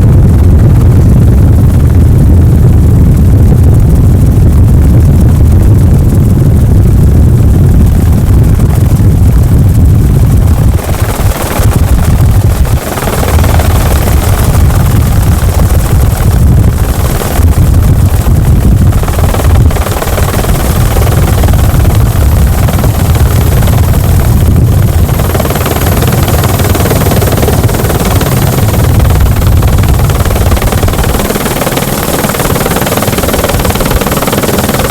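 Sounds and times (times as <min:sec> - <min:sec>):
helicopter cabin noise: 0:00.0 - 0:34.9.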